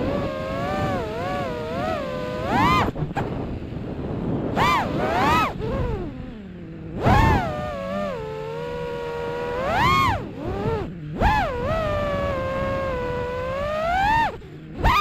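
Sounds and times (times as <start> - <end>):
high-pitched motor revving: 0.0 - 3.4, 4.4 - 15.0
low rushing wind: 0.0 - 15.0.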